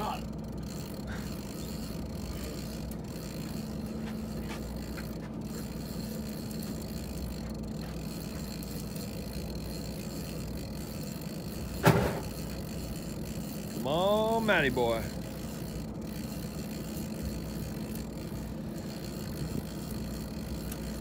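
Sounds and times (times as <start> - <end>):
boat engine drone: 0.0 - 21.0
wind: 0.0 - 21.0.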